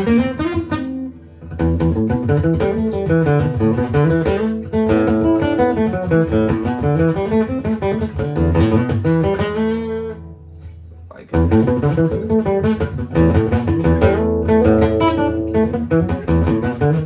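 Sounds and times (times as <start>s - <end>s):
amplified acoustic guitar: 0.0s - 17.0s.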